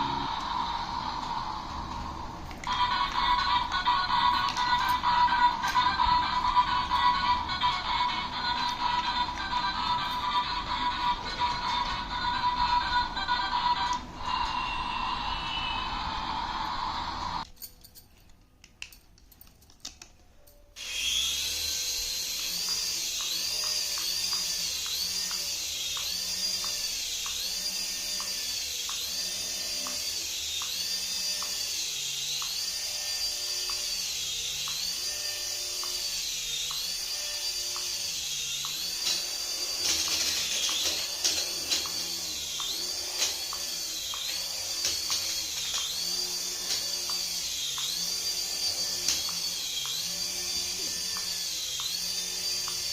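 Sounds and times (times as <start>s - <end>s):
toy motor and gear whine: 0.0s - 17.5s, 19.9s - 52.9s.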